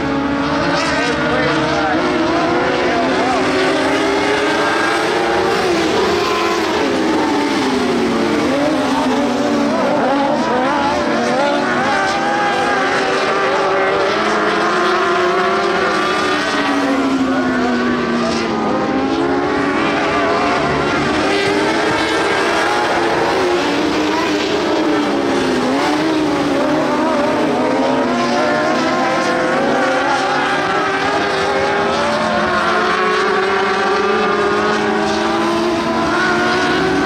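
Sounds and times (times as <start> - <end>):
high-revving racing engines: 0.0 - 37.0.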